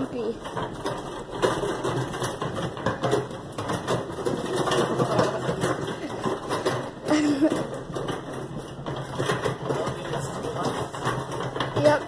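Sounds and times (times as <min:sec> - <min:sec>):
cart wheels rattling on concrete: 0:00.0 - 0:12.0.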